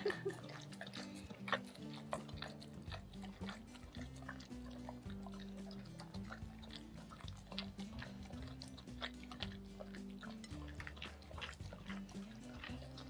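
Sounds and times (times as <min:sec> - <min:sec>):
dog licking and chewing: 0:00.0 - 0:13.0
soft background music: 0:00.0 - 0:13.0.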